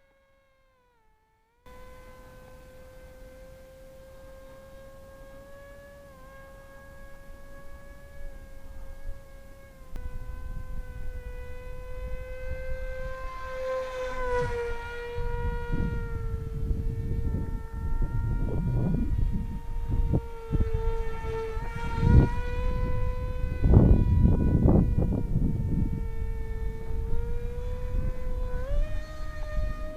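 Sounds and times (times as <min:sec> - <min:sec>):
electric propeller whining: 0:00.0 - 0:29.9
wind noise on microphone: 0:01.7 - 0:29.9.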